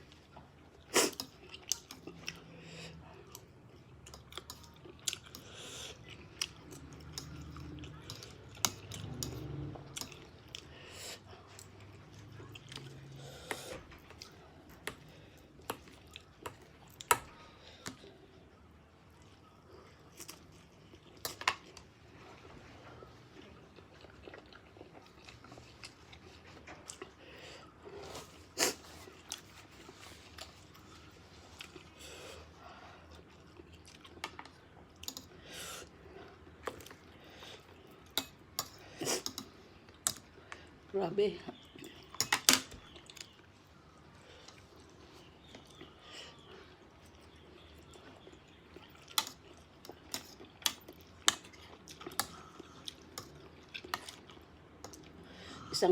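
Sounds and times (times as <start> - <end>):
person chewing noodles: 0.0 - 18.3, 19.2 - 22.5, 23.2 - 40.7, 42.8 - 55.7.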